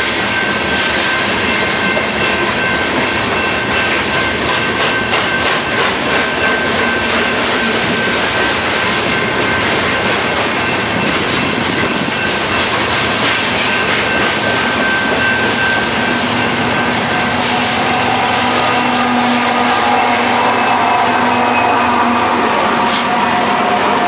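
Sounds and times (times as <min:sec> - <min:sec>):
train wheels rolling on rail: 0:00.0 - 0:24.0.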